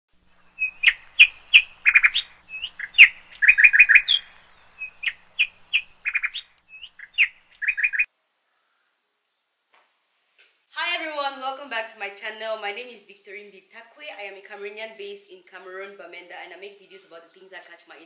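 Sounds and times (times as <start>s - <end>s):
small songbird chirping: 0.1s - 9.5s, 12.7s - 18.0s.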